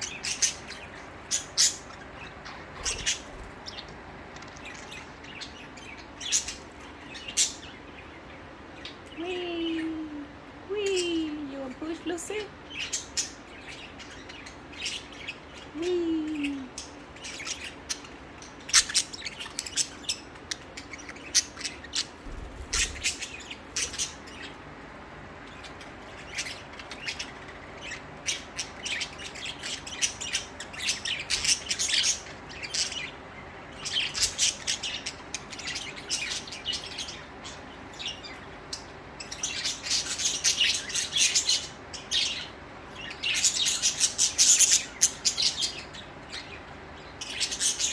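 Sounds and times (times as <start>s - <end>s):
budgerigars chirping: 0.0s - 9.2s, 11.9s - 15.8s, 16.4s - 47.9s.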